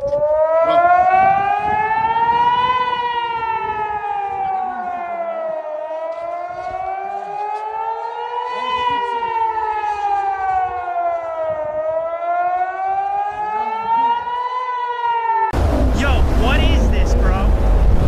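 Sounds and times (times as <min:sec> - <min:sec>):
two-tone air-raid siren wailing: 0:00.0 - 0:18.0.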